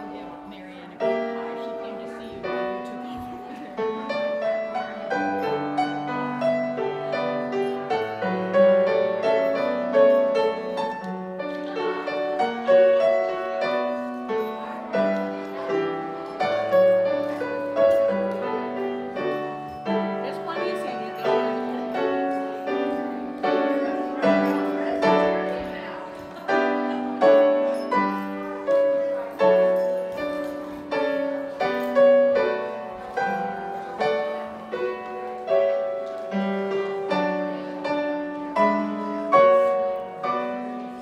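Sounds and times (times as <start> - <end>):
solo piano playing chords: 0.0 - 41.0.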